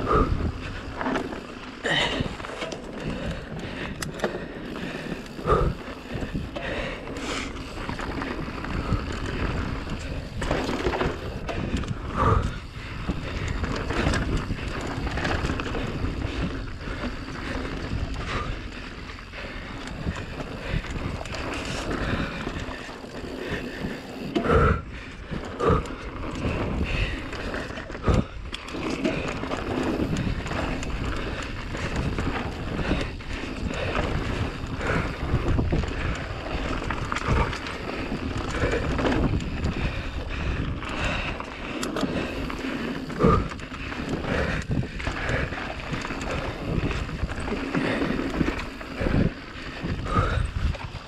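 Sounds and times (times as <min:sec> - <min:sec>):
wind on microphone: 0:00.0 - 0:01.1, 0:04.9 - 0:51.0
mountain bike tyres rumbling: 0:00.0 - 0:51.0.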